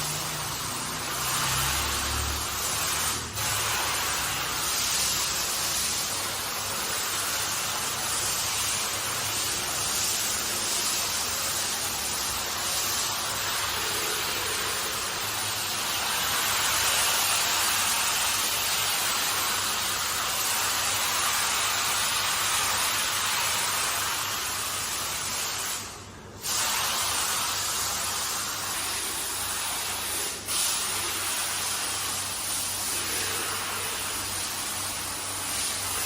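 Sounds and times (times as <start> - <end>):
pressure sprayer jetting water: 0.0 - 36.0.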